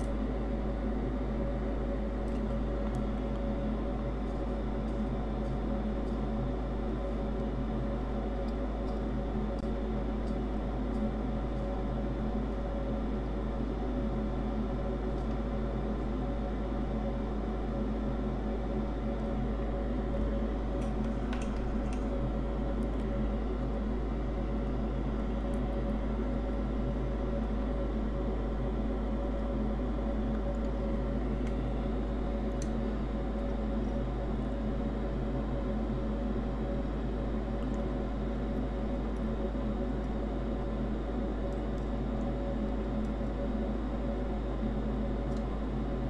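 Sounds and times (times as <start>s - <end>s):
machine hum with fan whir: 0.0s - 46.0s.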